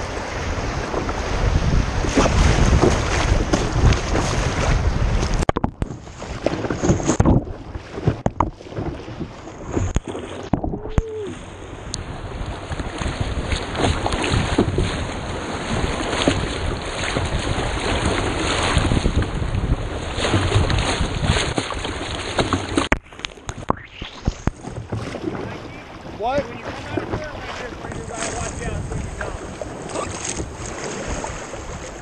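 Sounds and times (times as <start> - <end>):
water slapping a hull: 0.0 - 32.0.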